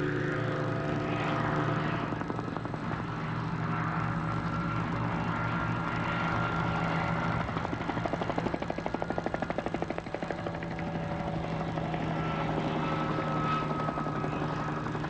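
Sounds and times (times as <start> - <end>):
helicopter engine hum: 0.0 - 15.0
helicopter rotor beating: 0.0 - 15.0.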